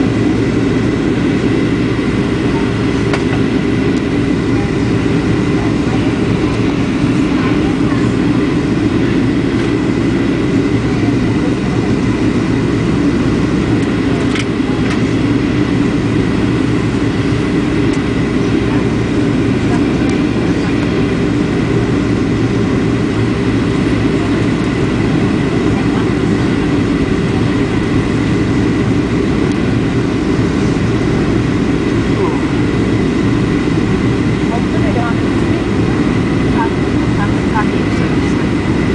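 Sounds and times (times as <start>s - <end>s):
airplane engine and airflow rush: 0.0s - 38.9s.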